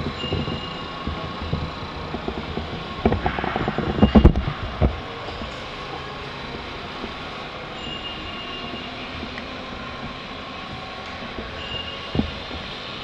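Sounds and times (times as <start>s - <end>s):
faint high whine: 0.0s - 13.0s
mixer whirring and humming: 0.0s - 13.0s.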